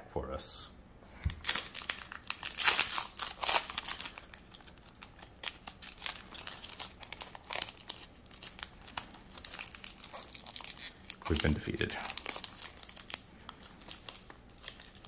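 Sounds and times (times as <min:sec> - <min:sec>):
foil wrapper crinkling and tearing: 0:01.3 - 0:15.0.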